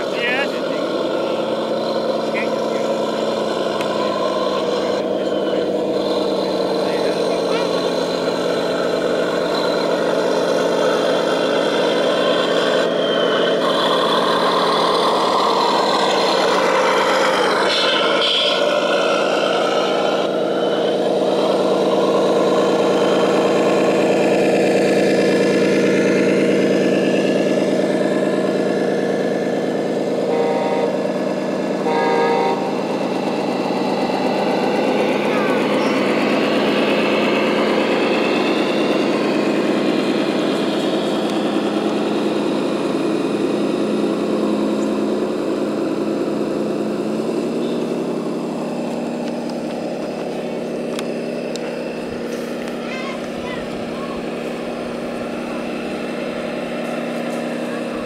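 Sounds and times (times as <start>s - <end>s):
simulated diesel engine running: 0.0s - 58.0s.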